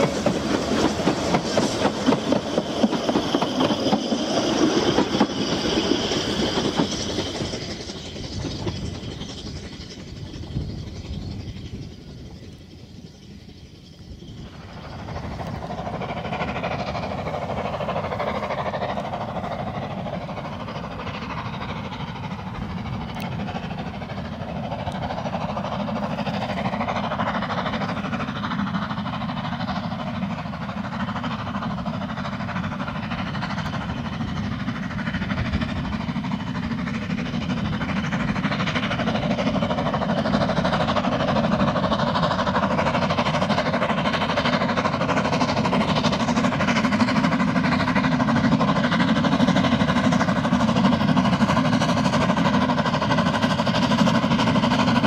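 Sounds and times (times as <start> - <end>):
steam train running: 0.0 - 55.0.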